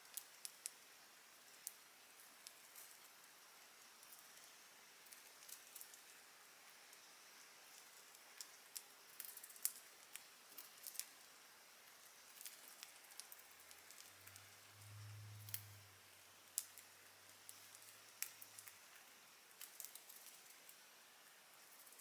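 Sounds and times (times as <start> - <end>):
faint low hum: 0.1 - 22.0.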